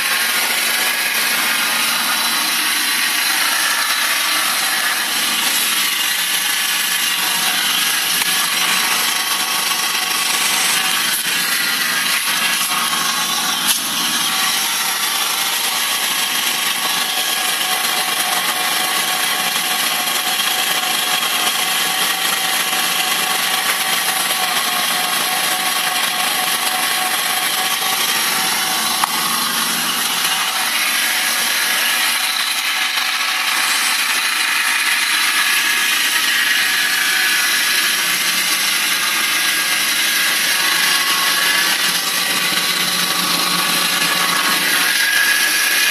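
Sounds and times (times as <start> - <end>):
high-pitched engine noise: 0.0 - 45.9.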